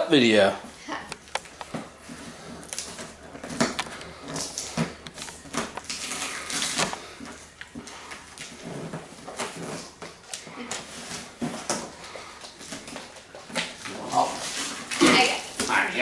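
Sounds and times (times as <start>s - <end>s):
cardboard and tape tearing: 1.2s - 11.9s, 12.6s - 16.0s.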